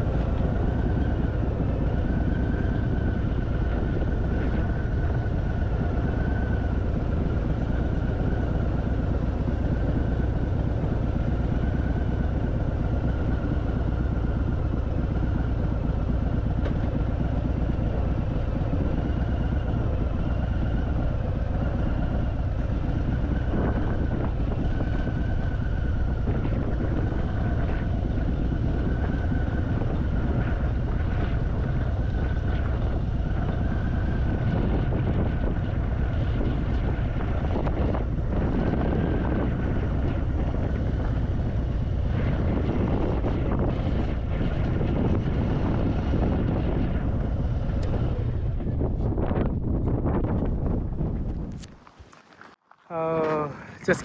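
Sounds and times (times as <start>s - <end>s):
motorcycle engine deep rumble: 0.0s - 54.0s
road noise: 0.0s - 54.0s.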